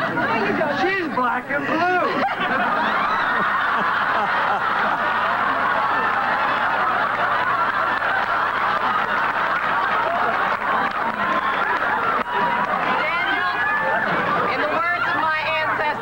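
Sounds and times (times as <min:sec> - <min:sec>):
crowd cheering and shouting: 0:01.7 - 0:16.0.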